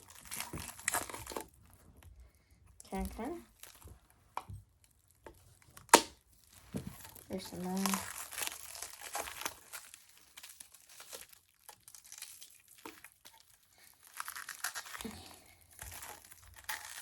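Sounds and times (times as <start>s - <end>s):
packaging crinkling and tearing: 0.0s - 2.0s, 2.9s - 3.9s, 4.8s - 17.0s.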